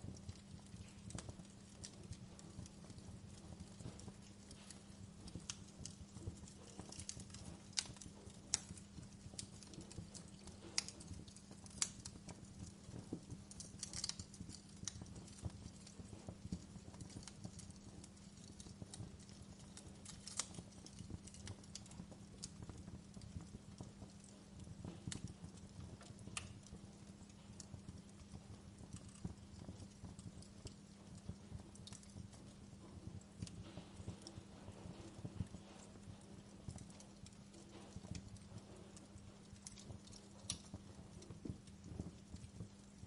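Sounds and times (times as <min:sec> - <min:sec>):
fire low rumble: 0:00.0 - 0:43.0
wood fire crackling and popping: 0:00.0 - 0:43.0.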